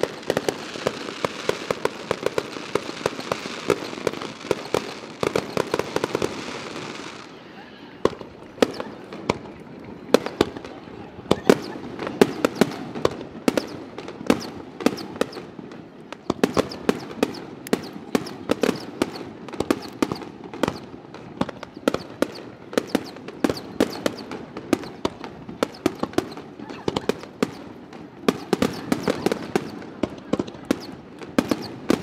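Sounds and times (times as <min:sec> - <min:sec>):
firework shells bursting: 0:00.0 - 0:07.3, 0:11.4 - 0:32.0.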